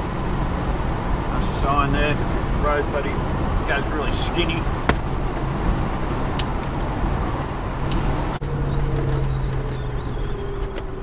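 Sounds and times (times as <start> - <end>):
car engine drone: 0.0 - 11.0
tyre road noise: 0.0 - 11.0.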